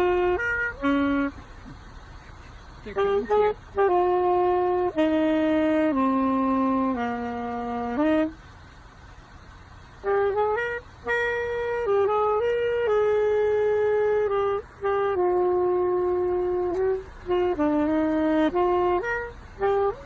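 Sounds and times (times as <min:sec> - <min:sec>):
woodwind playing slow melody: 0:00.0 - 0:20.0.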